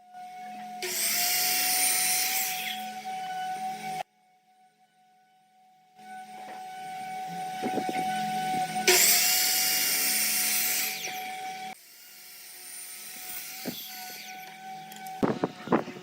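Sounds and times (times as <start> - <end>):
power tool cutting wood: 0.0 - 4.1, 6.0 - 16.0.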